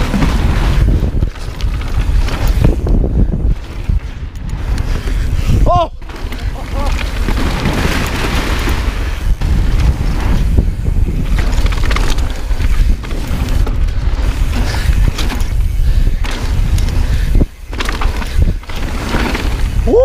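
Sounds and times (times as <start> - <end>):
bike rattling and knocking: 0.0 - 20.0
wind rumble on microphone: 0.0 - 20.0.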